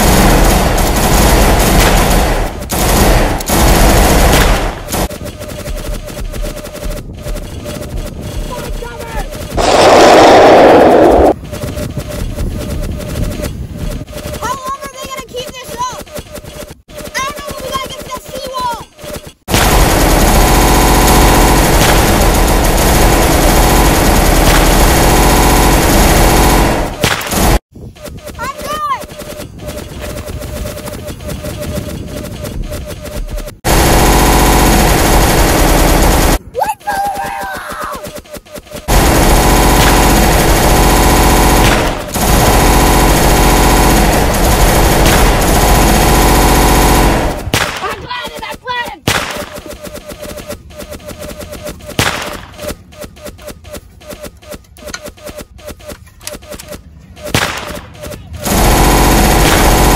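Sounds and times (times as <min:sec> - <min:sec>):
machine-gun fire: 0:00.0 - 0:36.4, 0:37.6 - 0:59.9
rifle shots: 0:00.0 - 0:36.4, 0:37.9 - 0:59.9
rapid gunshots: 0:00.0 - 0:59.9.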